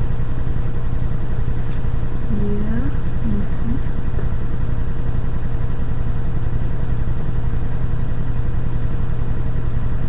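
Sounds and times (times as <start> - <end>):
loud steady low hum: 0.0 - 10.0.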